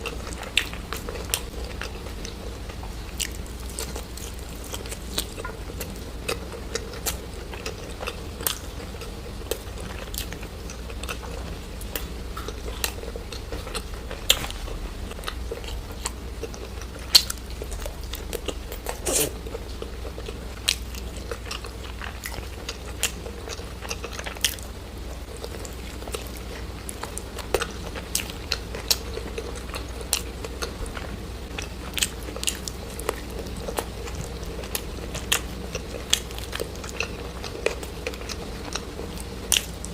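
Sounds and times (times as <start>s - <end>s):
crunchy chewing: 0.0s - 39.9s
low hum: 0.0s - 39.9s.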